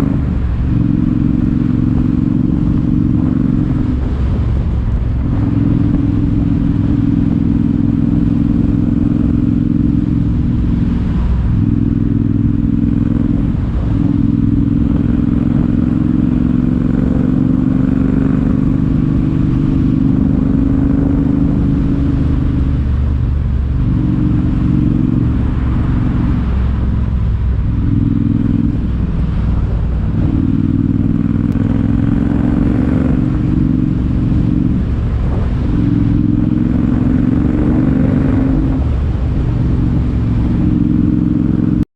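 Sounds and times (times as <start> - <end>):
motorcycle engine exhaust note: 0.0 - 41.9.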